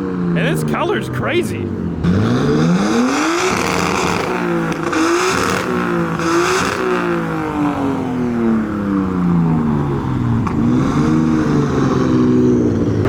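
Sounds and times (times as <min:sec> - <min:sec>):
car engine revving: 0:01.6 - 0:13.0.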